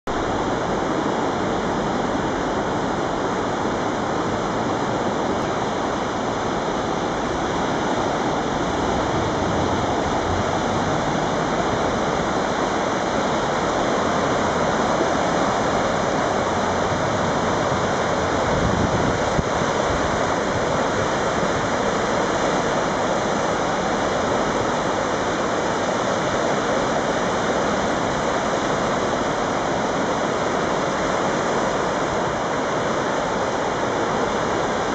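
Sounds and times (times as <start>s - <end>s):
floodwater rushing: 0.1s - 34.9s.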